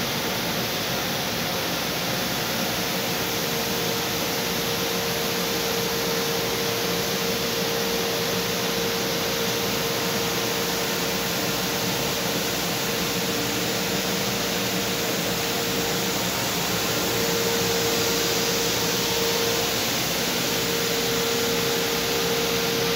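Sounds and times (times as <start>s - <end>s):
fan running with hum: 0.0s - 22.9s.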